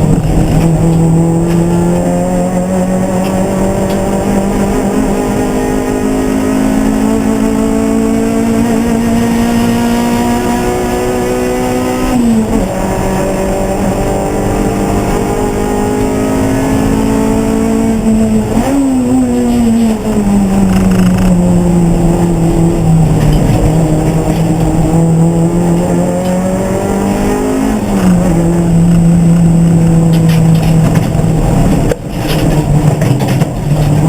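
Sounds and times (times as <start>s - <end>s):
race car engine running hard: 0.0s - 34.0s.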